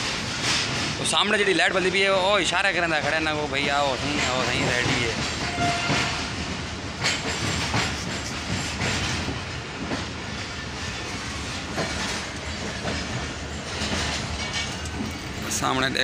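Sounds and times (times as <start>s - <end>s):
train wheels rumbling on rail: 0.0s - 16.0s
clacks over rail joints: 2.4s - 10.4s, 11.0s - 16.0s.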